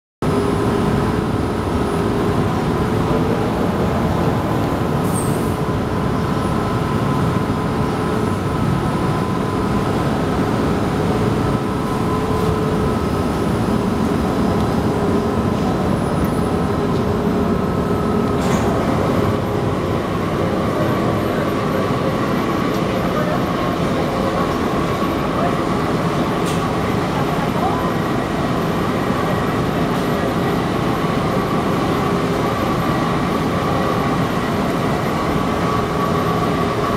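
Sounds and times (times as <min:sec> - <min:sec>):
constant hum tones: 0:00.2 - 0:36.9.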